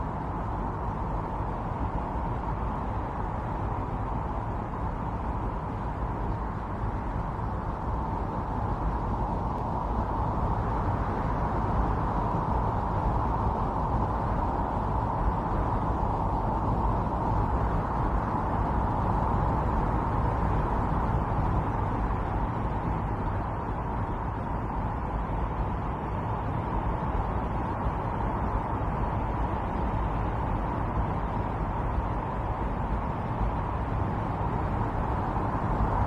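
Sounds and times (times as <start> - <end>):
howling snowstorm wind: 0.0 - 36.0.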